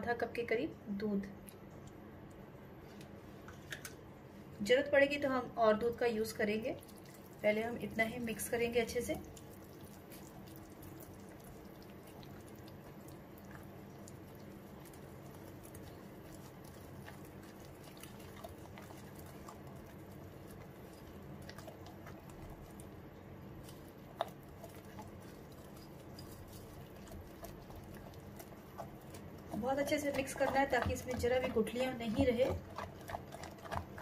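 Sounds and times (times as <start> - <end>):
batter being stirred: 5.8 - 34.0.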